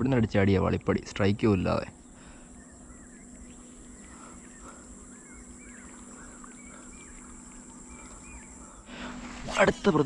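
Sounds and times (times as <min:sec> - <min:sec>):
birds chirping: 0:00.0 - 0:10.0
faint low hum: 0:00.0 - 0:10.0
high insect buzz: 0:01.9 - 0:10.0.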